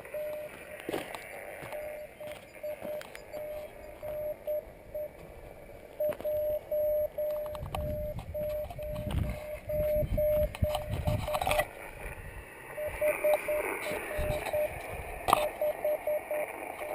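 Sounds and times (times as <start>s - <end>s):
morse code beeps: 0.0s - 5.3s, 6.0s - 11.7s, 12.7s - 16.9s.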